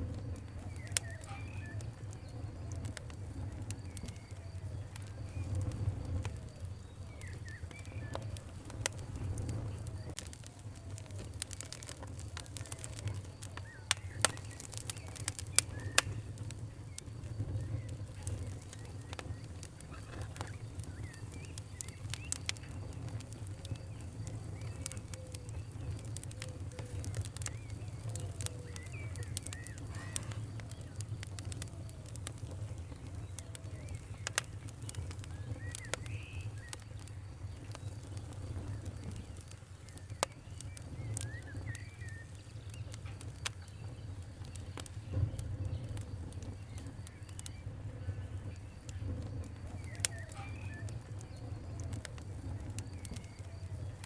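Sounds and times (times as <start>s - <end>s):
wood fire crackling and popping: 0.0s - 54.0s
faint birds calling: 0.2s - 54.0s.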